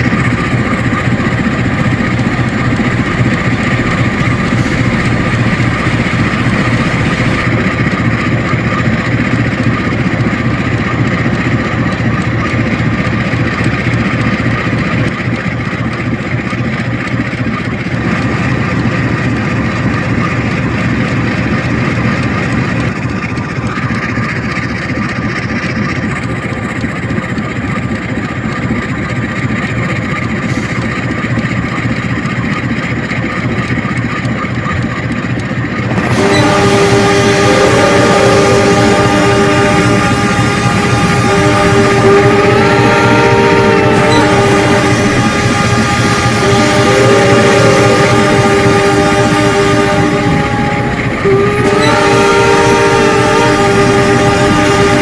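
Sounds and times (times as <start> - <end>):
diesel locomotive engines idling: 0.0 - 55.0.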